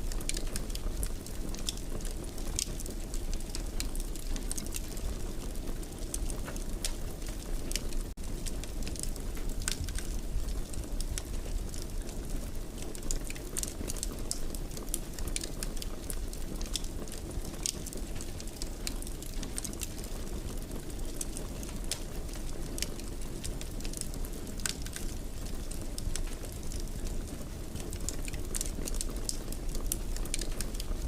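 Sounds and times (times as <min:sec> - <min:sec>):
fire crackling in fireplace: 0:00.0 - 0:31.0.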